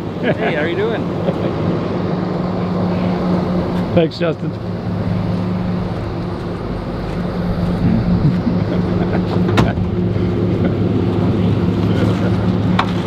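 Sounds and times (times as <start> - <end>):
truck engine idling: 1.9 - 13.0.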